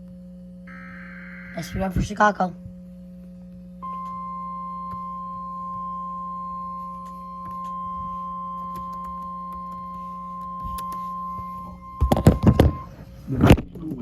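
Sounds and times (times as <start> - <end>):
steady alarm tone: 0.6 - 13.2.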